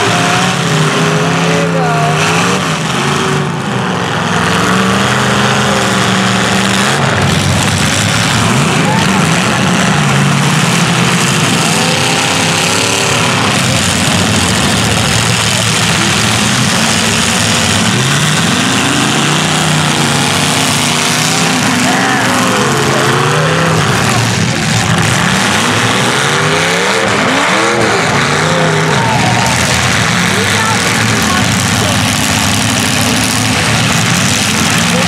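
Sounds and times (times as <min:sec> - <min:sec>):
car engines revving: 0:00.0 - 0:35.0
dense steady din: 0:00.0 - 0:35.0.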